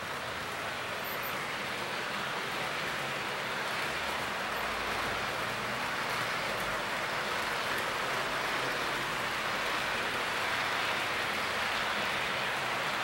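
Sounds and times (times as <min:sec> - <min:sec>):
model train wheels on rails: 0:00.0 - 0:13.0.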